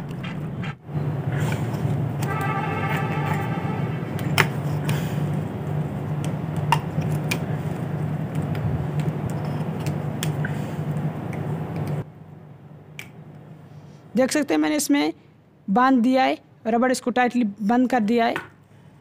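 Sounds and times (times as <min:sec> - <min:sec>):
low mechanical hum: 0:00.0 - 0:15.8.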